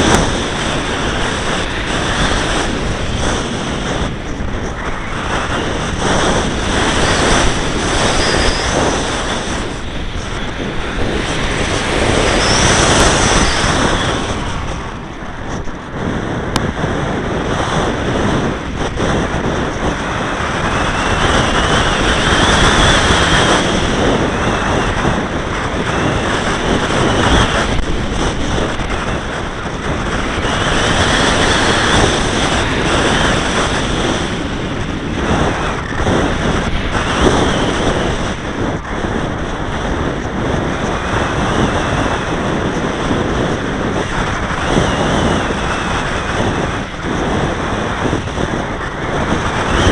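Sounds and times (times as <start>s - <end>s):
model aircraft motor whine: 0.0s - 49.9s
wind rushing over microphone: 0.0s - 49.9s.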